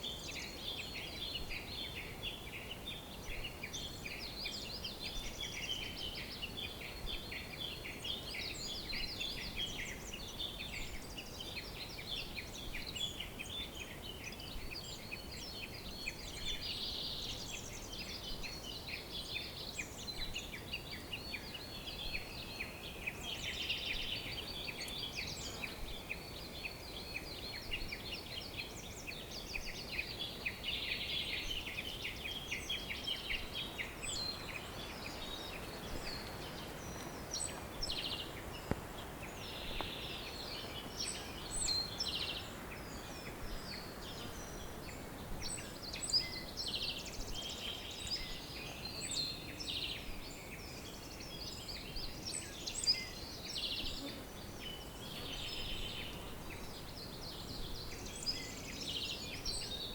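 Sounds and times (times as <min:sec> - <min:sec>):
faint background hiss: 0:00.0 - 0:59.9
songbirds chirping and trilling: 0:00.0 - 0:59.9.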